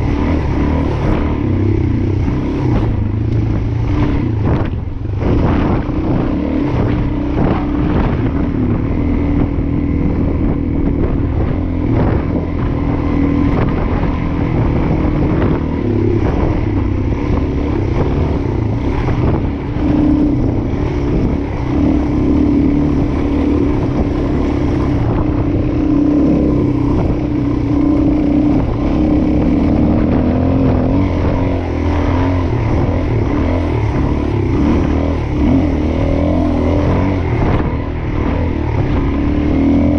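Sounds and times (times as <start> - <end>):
heavy low rumble: 0.0 - 39.9
motorcycle engine revving: 0.0 - 39.9.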